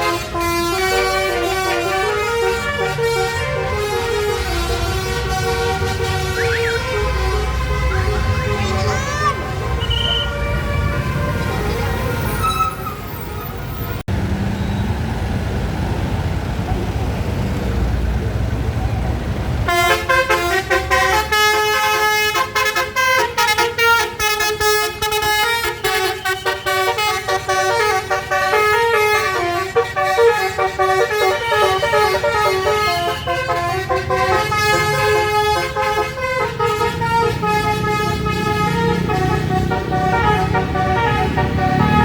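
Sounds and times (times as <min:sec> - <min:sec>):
musical bus horn playing a tune: 0:00.0 - 0:13.8, 0:19.6 - 0:42.0.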